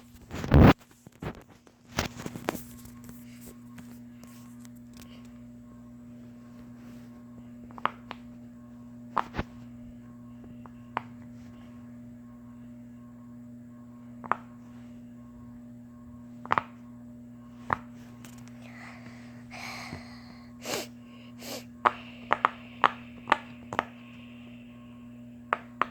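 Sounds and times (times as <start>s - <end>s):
low electrical hum: 0.0s - 25.9s.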